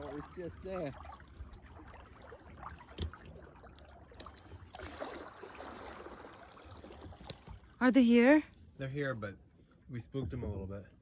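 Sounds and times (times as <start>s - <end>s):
paddle and hull splashing water: 0.0s - 11.0s.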